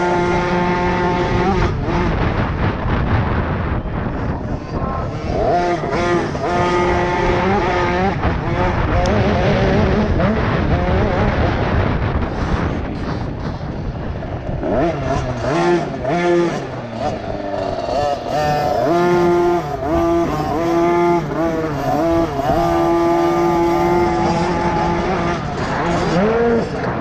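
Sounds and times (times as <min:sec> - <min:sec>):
two-stroke motocross engine revving: 0:00.0 - 0:27.0.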